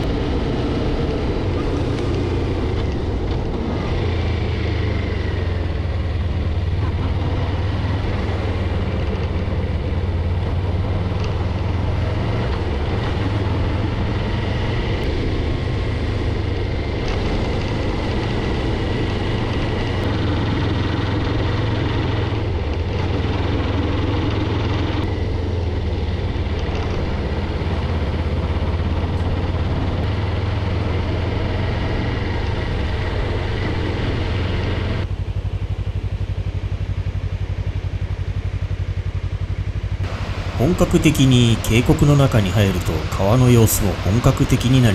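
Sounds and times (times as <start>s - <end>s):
road noise hiss: 0.0s - 44.9s
vehicle engine drone: 0.0s - 44.9s.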